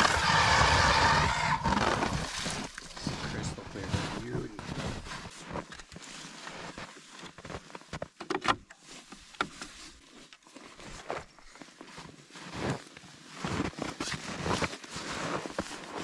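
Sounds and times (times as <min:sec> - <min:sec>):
footsteps crunching on snow: 0:00.0 - 0:08.2, 0:08.8 - 0:16.0.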